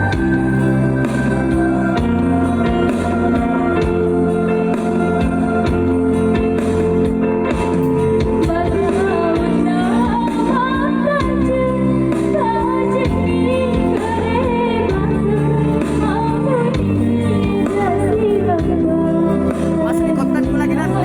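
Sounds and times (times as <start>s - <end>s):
instrumental held chords: 0.0s - 21.0s
person singing with vibrato: 0.0s - 21.0s.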